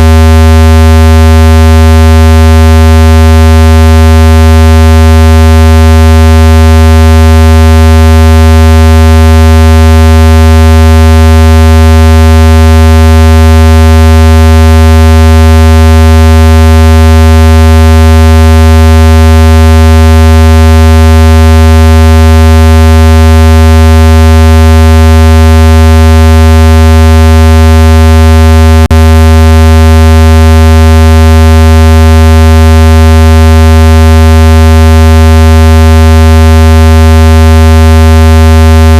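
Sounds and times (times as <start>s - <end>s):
loud low buzzing tone: 0.0s - 38.9s.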